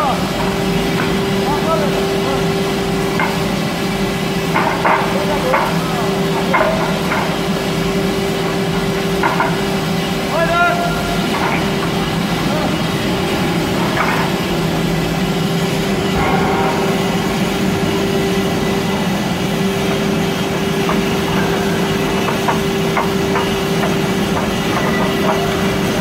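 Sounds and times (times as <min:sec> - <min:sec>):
pneumatic vibrator humming: 0:00.0 - 0:26.0.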